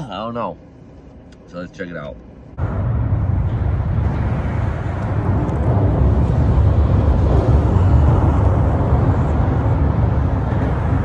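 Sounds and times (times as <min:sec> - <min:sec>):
highway traffic rumble overhead: 0:00.0 - 0:11.0.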